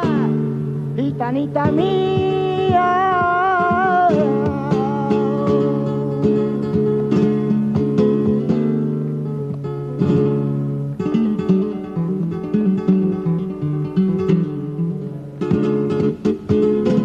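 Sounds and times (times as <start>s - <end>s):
flamenco guitar playing: 0.0s - 17.0s.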